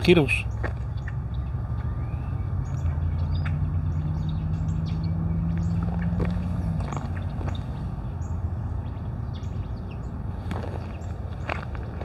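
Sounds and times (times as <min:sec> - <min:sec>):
low vehicle rumble: 0:00.0 - 0:12.0
small birds chirping: 0:00.0 - 0:12.0.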